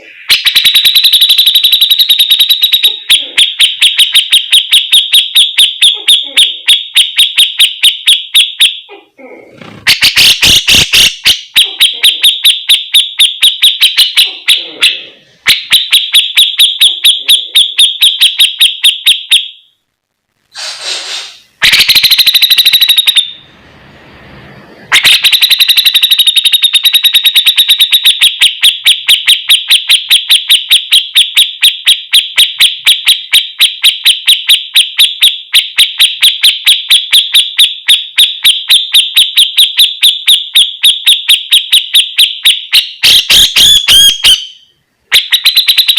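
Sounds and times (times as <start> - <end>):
bird calling sharp repeated notes: 0.0 - 9.0, 9.6 - 19.7, 21.2 - 23.4, 24.9 - 45.9.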